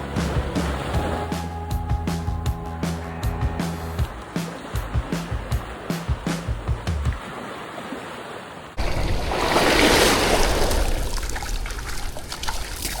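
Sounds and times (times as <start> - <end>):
ocean waves breaking on beach: 0.0 - 1.5, 4.0 - 13.0.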